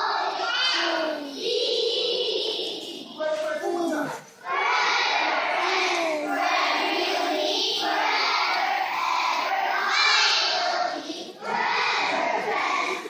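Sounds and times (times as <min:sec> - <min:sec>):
children shouting a chant: 0:00.0 - 0:13.0.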